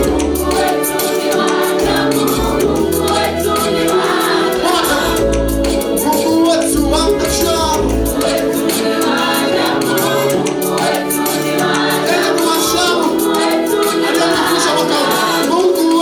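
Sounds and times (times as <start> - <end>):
group singing gospel music: 0.0 - 16.0.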